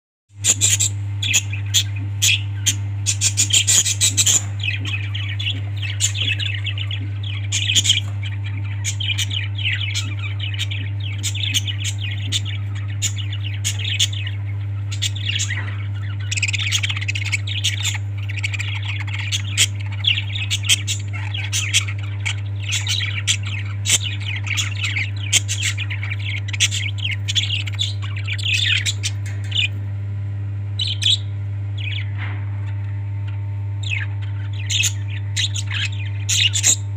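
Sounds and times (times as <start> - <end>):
parrots chirping and squawking: 0.3 - 36.9
steady low hum: 0.3 - 36.9.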